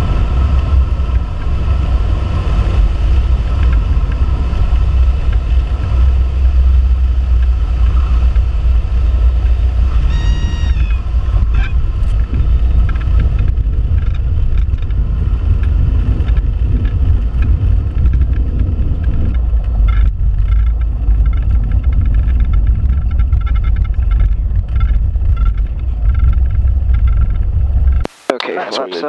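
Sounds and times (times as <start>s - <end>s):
plane engine and propeller drone: 0.0s - 29.0s.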